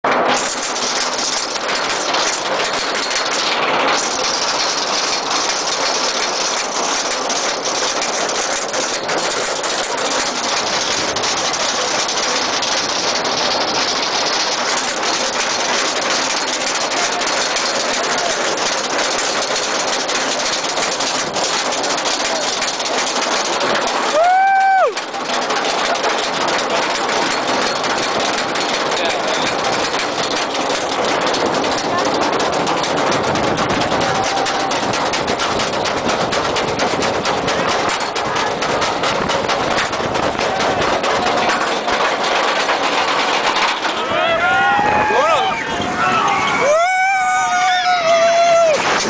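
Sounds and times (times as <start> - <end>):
roller coaster lift rumble: 0.0 - 49.0.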